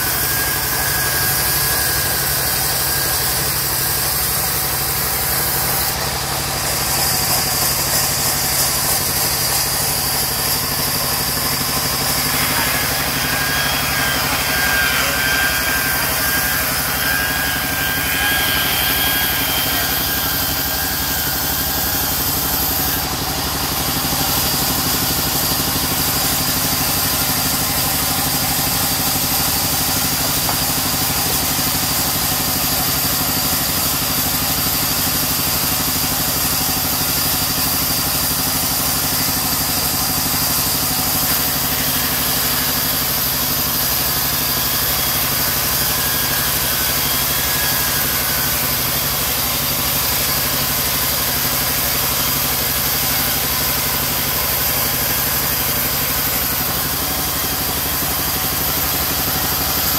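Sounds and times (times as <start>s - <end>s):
band saw drone: 0.0s - 59.9s
saw blade hissing in wood: 0.0s - 59.9s.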